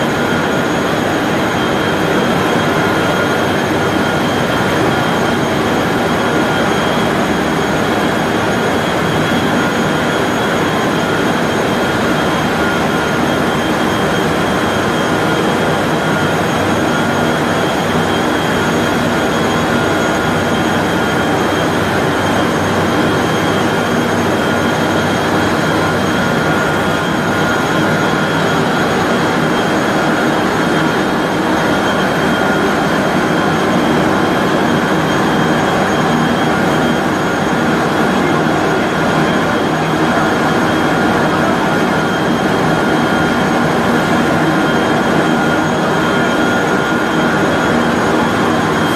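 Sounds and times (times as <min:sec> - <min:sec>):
high machine whines: 0:00.0 - 0:48.9.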